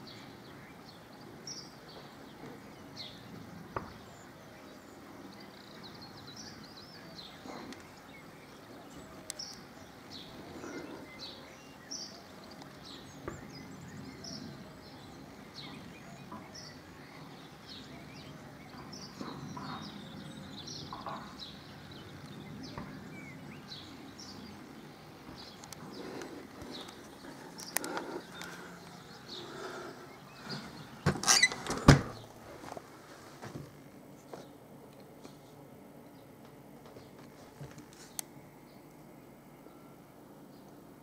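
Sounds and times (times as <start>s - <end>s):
low background noise: 0.0s - 41.0s
small birds chirping: 0.0s - 41.0s.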